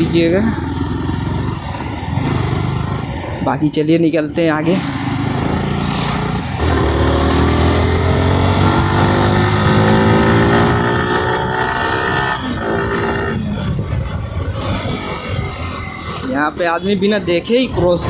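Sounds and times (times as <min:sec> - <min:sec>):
motorcycle engine accelerating: 0:00.0 - 0:03.6, 0:04.4 - 0:18.0.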